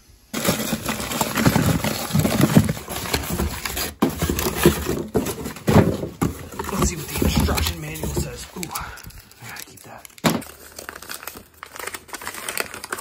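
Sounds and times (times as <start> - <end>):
rummaging through cardboard boxes: 0.3 - 13.0.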